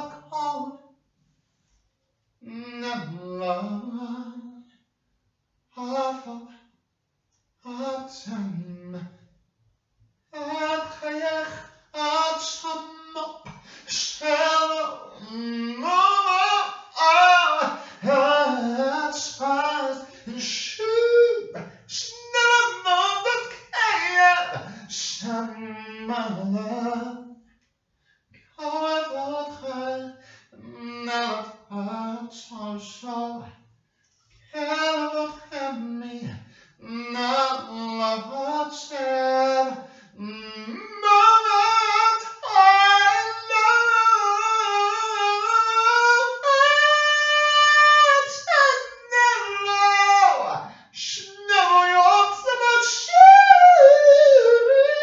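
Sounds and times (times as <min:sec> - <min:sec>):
person singing unaccompanied: 0:00.0 - 0:00.8, 0:02.4 - 0:04.6, 0:10.4 - 0:27.3, 0:28.6 - 0:33.5, 0:34.6 - 0:55.0.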